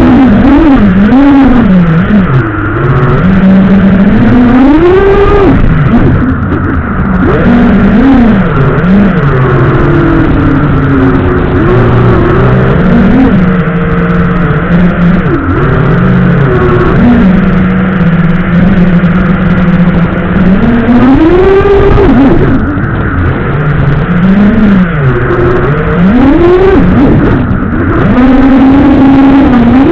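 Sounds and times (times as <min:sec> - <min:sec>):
quadcopter motors whining: 0:00.0 - 0:29.9.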